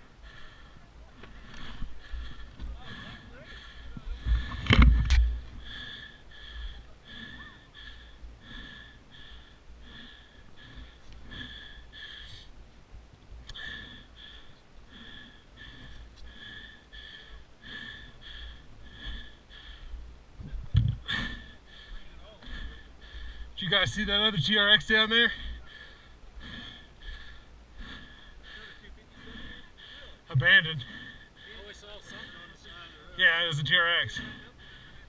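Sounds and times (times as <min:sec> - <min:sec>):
rapid rhythmic breathing: 0:00.0 - 0:35.0.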